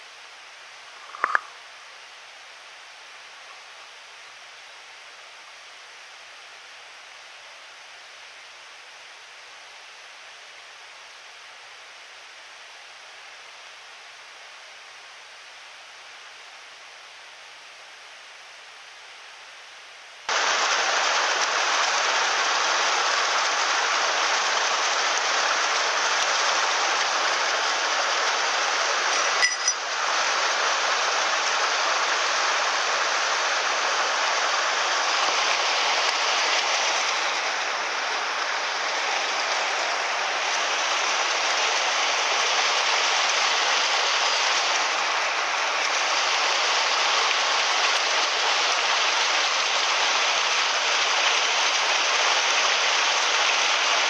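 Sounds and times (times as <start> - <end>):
mountain stream water rushing: 0.0 - 18.9, 20.2 - 54.0.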